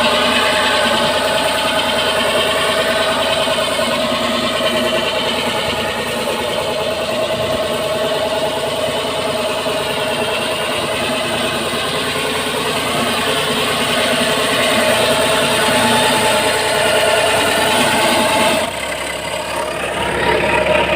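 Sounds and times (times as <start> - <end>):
drilling rig engine drone: 0.0 - 20.9.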